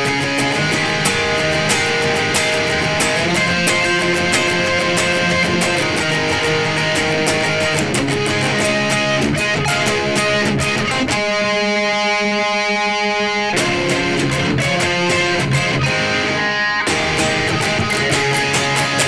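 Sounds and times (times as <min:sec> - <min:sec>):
fast picked electric guitar: 0:00.0 - 0:19.0
ringing guitar harmonic: 0:00.0 - 0:19.0.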